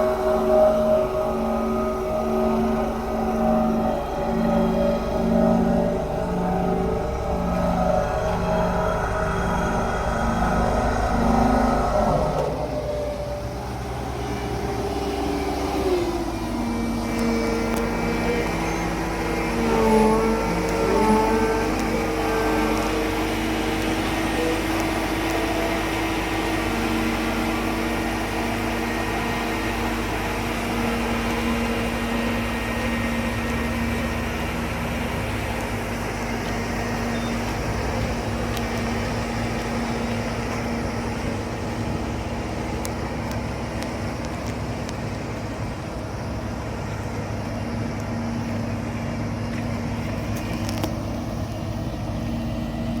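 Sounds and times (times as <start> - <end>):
road roller diesel engine running: 0.0 - 53.0.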